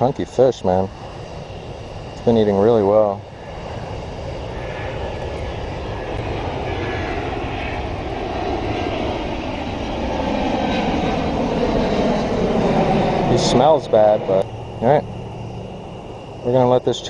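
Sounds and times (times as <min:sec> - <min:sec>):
aircraft engine rumble: 0:00.0 - 0:17.0.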